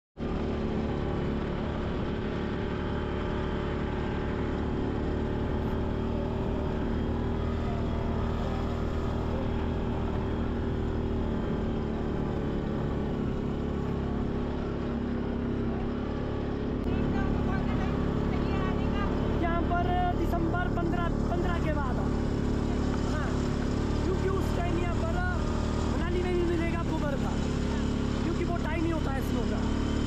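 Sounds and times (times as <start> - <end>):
off-road vehicle engine running: 0.2 - 30.0.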